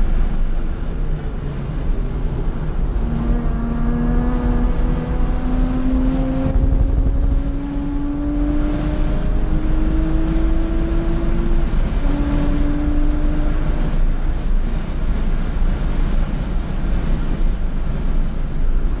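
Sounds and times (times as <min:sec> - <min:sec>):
car engine revving in cabin: 0:00.0 - 0:19.0
wind and road noise: 0:00.0 - 0:19.0.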